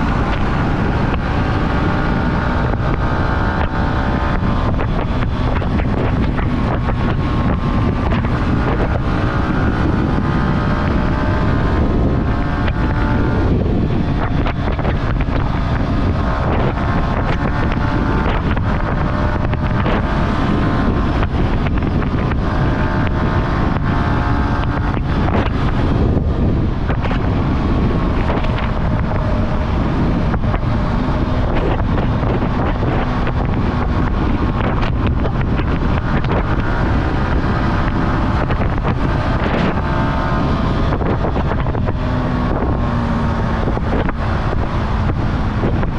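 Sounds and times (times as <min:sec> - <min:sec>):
motorcycle engine accelerating: 0:00.0 - 0:45.9
wind rushing over microphone: 0:00.0 - 0:45.9.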